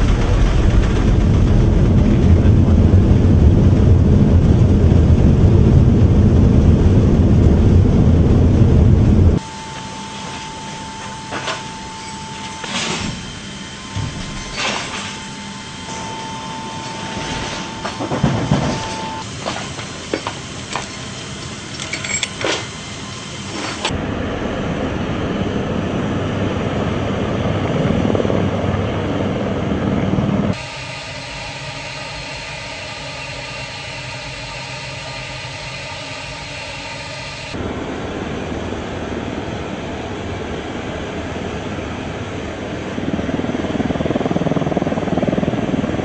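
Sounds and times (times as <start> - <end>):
cargo bay hum with held tones: 0.0 - 46.0
jet engines rushing rumble: 0.0 - 46.0.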